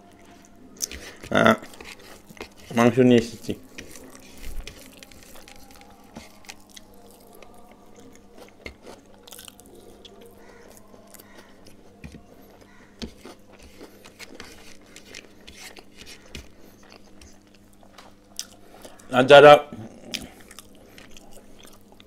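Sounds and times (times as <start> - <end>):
chewing and biting food: 0.3 - 19.1, 20.0 - 22.0.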